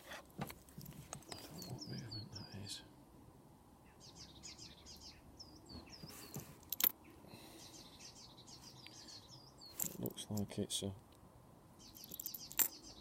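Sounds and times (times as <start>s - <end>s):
small birds chirping: 0.0s - 3.1s, 3.7s - 13.0s.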